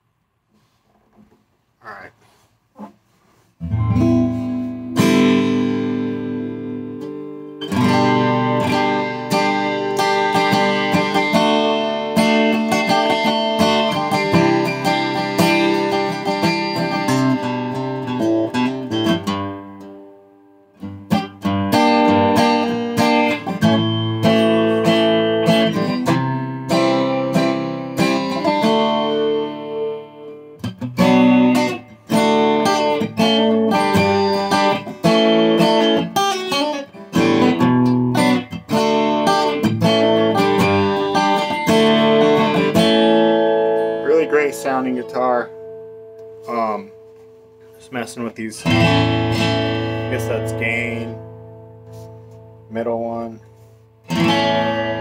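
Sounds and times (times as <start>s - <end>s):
acoustic guitar strumming: 0.6s - 55.0s.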